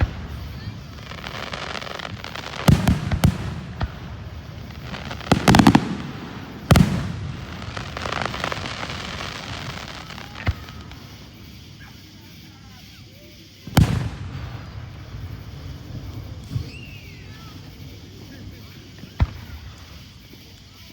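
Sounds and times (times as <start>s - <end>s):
fireworks bangs: 0.0s - 20.9s
fireworks crackling: 0.0s - 20.9s.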